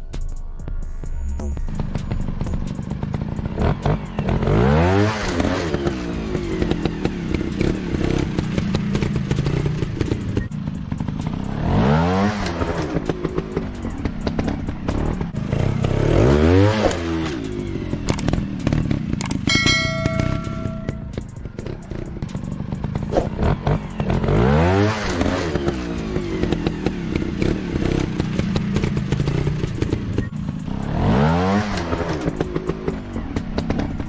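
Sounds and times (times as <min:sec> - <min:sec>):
dirt bike engines revving: 0:02.7 - 0:34.0.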